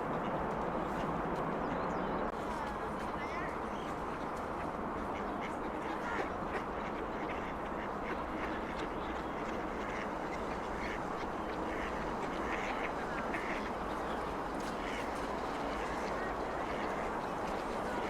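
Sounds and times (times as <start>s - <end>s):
heavy traffic hum: 0.0s - 18.0s
ducks quacking: 2.7s - 18.0s.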